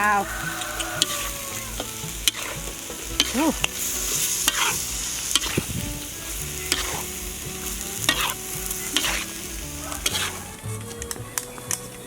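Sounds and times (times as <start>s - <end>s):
meat sizzling in hot oil: 0.0s - 10.8s
spatula scraping a pan: 0.0s - 11.1s.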